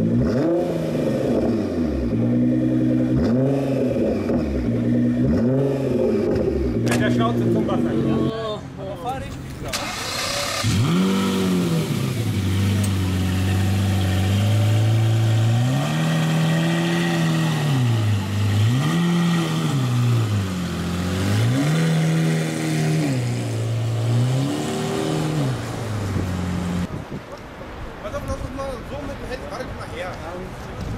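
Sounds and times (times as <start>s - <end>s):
car engine idling and revving: 0.0s - 26.9s.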